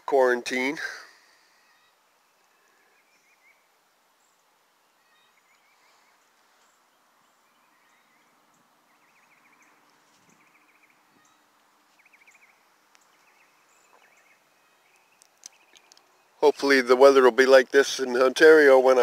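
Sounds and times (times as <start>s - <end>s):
faint birdsong chirping: 0.0s - 19.0s.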